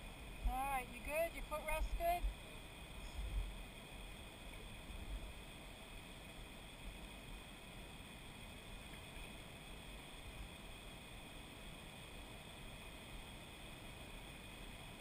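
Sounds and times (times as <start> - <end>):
microphone hiss: 0.0 - 15.0.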